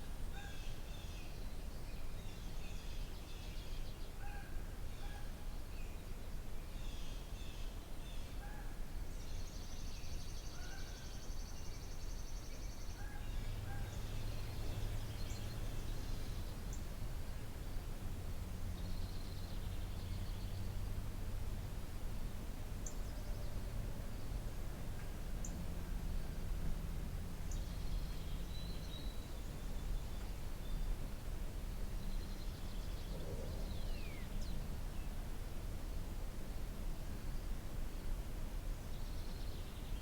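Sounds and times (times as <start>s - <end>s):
outdoor background noise: 0.0s - 40.0s.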